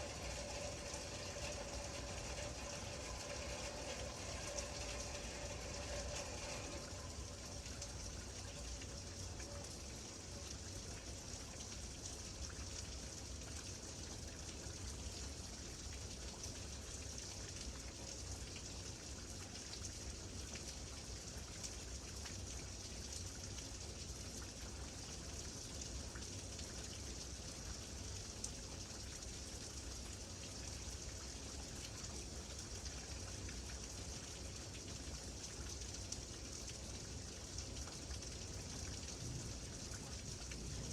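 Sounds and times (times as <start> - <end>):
raindrops ticking on a surface: 0.0 - 40.9
steady rain falling: 0.0 - 40.9.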